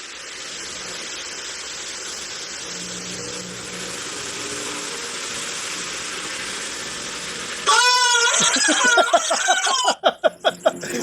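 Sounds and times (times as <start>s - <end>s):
room hiss: 0.0s - 11.0s.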